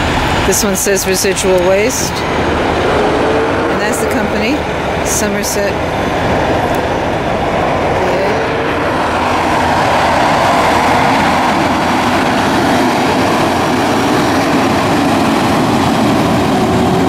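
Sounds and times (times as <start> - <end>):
steady droning tone: 0.0 - 17.0
trucks passing close by: 0.0 - 17.0.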